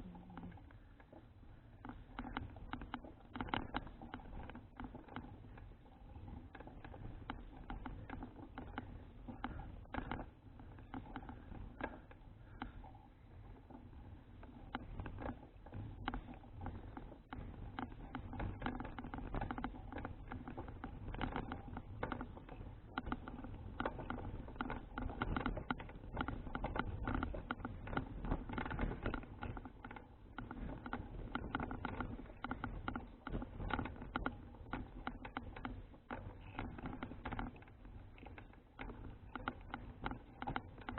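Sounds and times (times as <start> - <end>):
bicycle rattling and ticking: 0.0 - 40.9.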